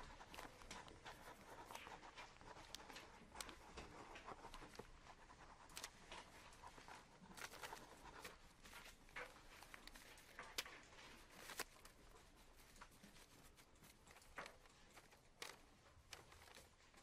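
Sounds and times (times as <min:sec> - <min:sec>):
small clicks and rustles: 0:00.0 - 0:17.0.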